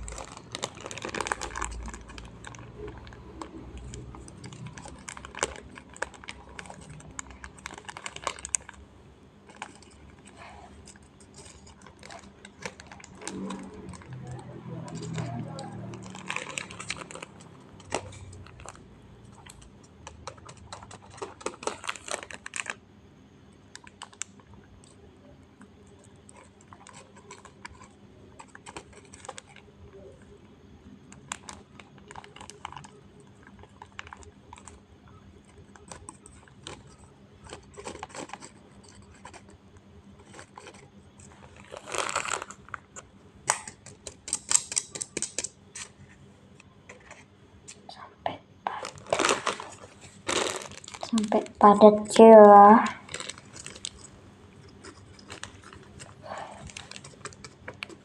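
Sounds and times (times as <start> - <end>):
crinkling rustles: 0.0 - 22.8, 23.5 - 47.9, 48.7 - 58.0.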